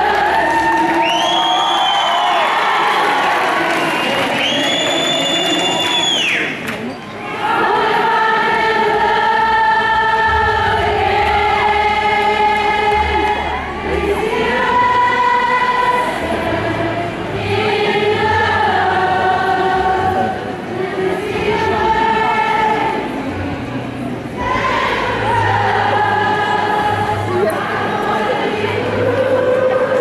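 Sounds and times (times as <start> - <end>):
concert crowd singing: 0.0 - 5.8, 7.1 - 30.0.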